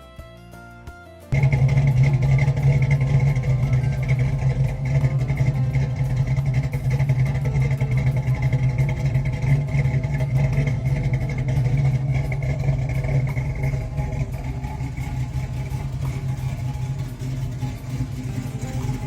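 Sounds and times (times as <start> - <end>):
car engine idling: 1.3 - 19.0.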